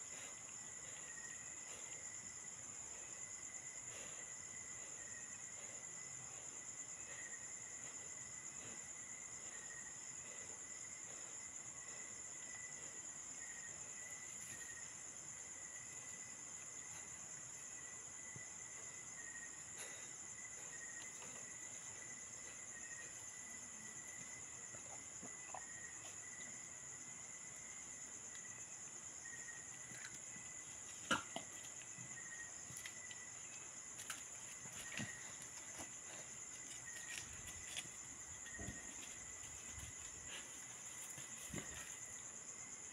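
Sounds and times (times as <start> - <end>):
crickets trilling: 0.0 - 42.9
lower insect trill: 0.0 - 42.9.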